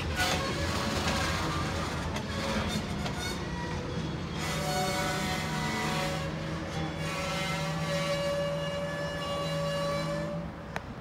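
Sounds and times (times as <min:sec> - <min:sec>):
train wheels squealing on rails: 0:00.0 - 0:11.0.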